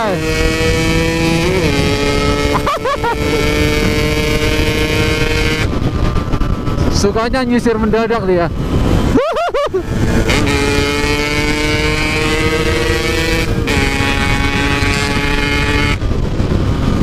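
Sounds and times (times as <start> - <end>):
motorcycle engine revving hard: 0.0 - 6.7, 9.8 - 17.0
wind on microphone: 0.0 - 17.0.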